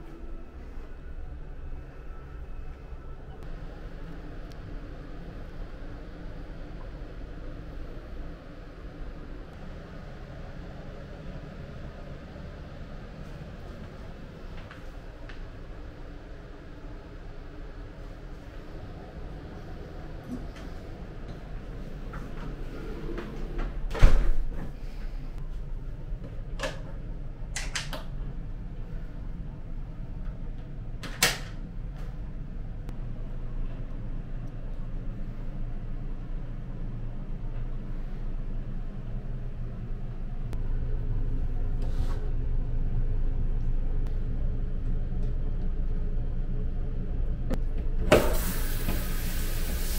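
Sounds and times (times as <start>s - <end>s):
low hum: 0.0s - 49.9s.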